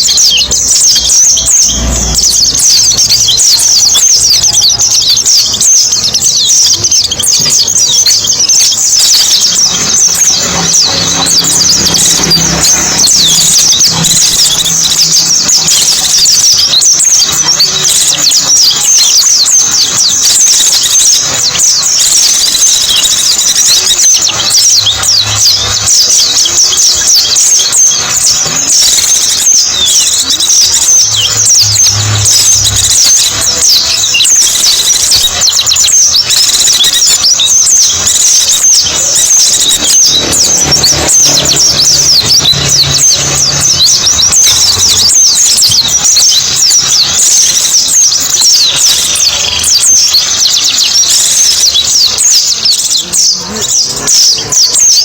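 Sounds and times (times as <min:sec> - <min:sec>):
bird twittering chirps: 0:00.0 - 0:55.0.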